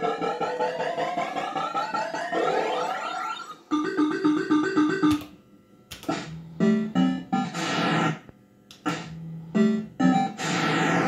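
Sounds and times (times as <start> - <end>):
fruit machine electronic sounds: 0.0 - 11.0.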